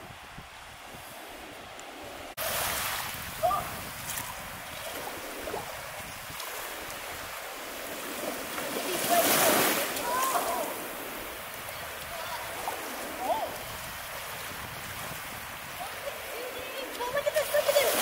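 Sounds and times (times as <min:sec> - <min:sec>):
ocean waves breaking: 0:00.0 - 0:18.0
wind on microphone: 0:00.0 - 0:18.0.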